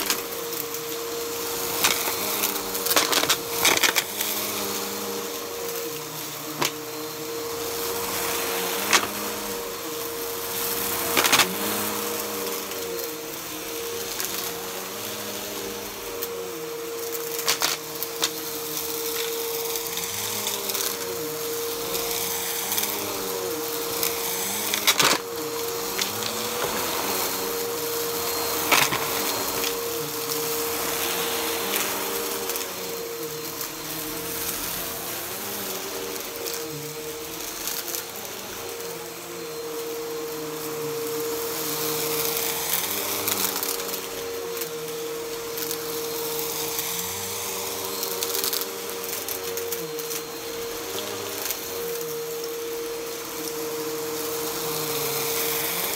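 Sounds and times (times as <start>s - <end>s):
upright vacuum motor whine: 0.0s - 55.9s.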